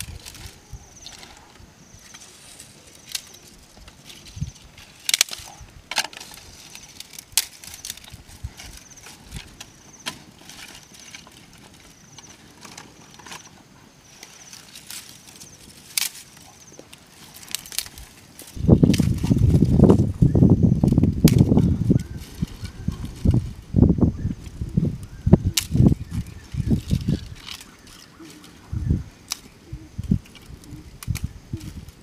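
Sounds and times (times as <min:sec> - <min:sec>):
dry grass and twigs crackling: 0:00.0 - 0:32.0.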